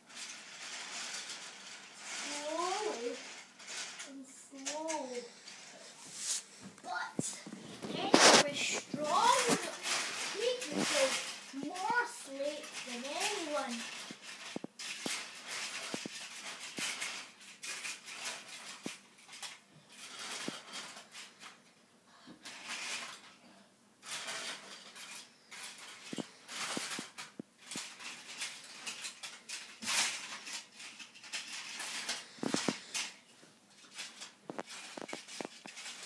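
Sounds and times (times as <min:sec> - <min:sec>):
wooden toy train track clacking: 0:00.0 - 0:05.9, 0:06.9 - 0:21.7, 0:22.4 - 0:23.4, 0:24.0 - 0:33.2, 0:33.8 - 0:36.0.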